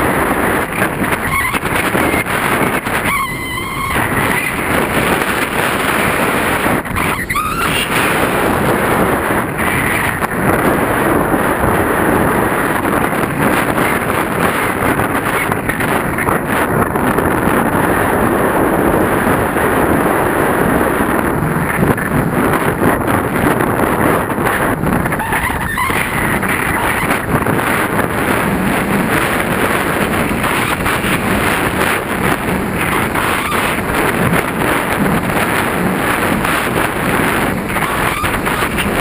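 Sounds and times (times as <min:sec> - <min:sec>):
airflow rushing over microphone: 0:00.0 - 0:39.0.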